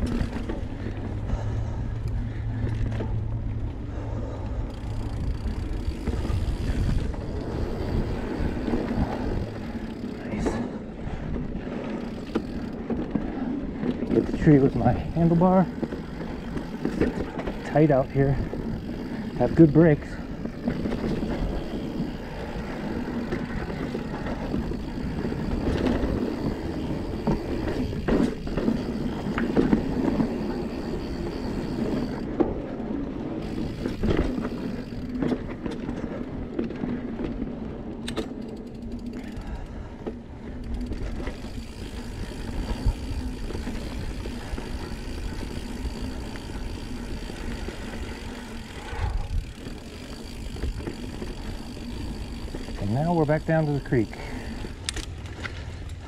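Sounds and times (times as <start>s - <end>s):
bike knocking and rattling: 0.0s - 56.0s
tyres rumbling on dirt trail: 0.0s - 56.0s.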